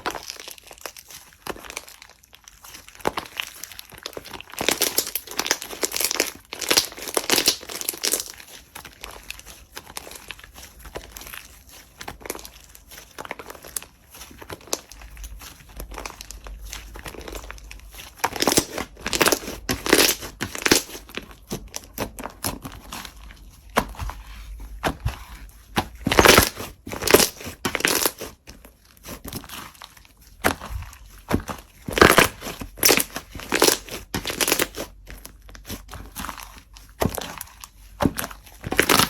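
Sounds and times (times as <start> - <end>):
slime squeezed clicky crinkly: 0.0 - 23.2, 26.0 - 39.0.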